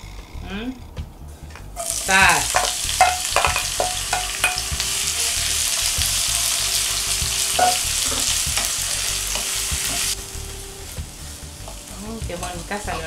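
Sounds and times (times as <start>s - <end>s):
vegetables sizzling in oil: 1.8s - 13.0s
wooden spatula scraping pan: 1.8s - 13.0s.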